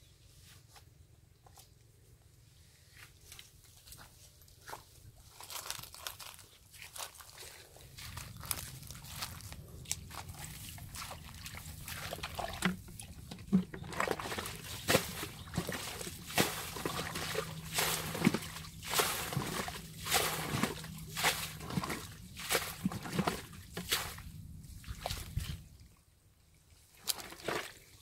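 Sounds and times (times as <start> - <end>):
muddy water splashing: 5.4 - 28.0.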